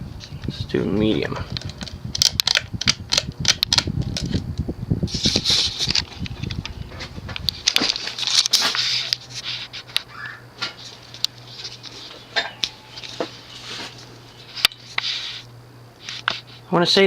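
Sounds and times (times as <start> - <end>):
ceiling fan motor humming: 0.0 - 17.0.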